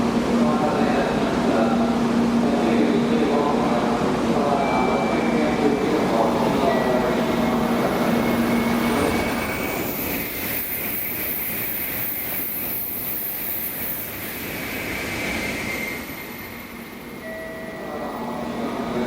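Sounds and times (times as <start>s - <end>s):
train rushing past: 0.0s - 19.0s.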